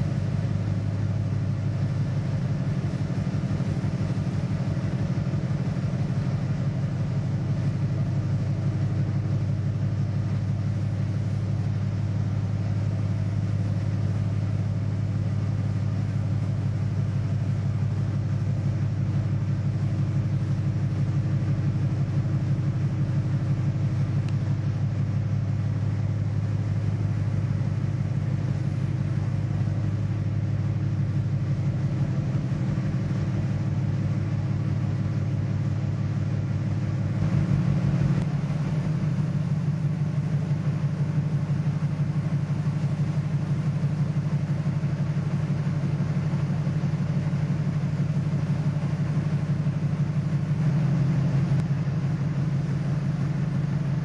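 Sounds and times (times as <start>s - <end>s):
ship engine rumbling: 0.0s - 54.0s.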